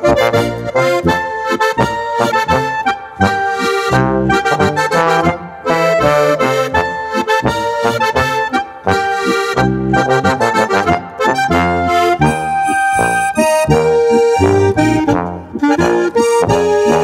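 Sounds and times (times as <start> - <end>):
accordion melody: 0.0 - 17.0
bass line: 0.0 - 17.0.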